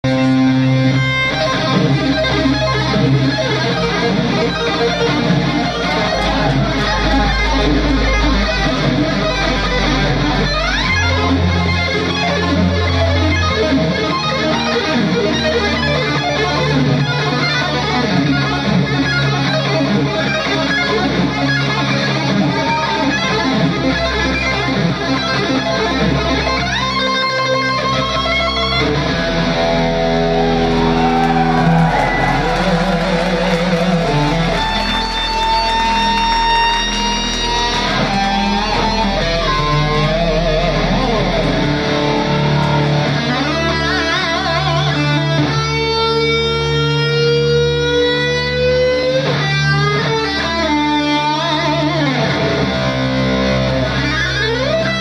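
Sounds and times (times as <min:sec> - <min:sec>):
fast electric guitar lead: 0:00.0 - 0:55.0
live rock band: 0:00.0 - 0:55.0.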